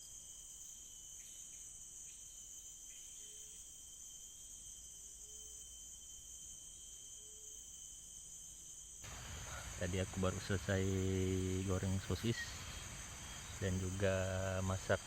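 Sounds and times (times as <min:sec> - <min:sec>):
crickets shrill drone: 0:00.0 - 0:15.0
thin steady insect tone: 0:00.0 - 0:15.0.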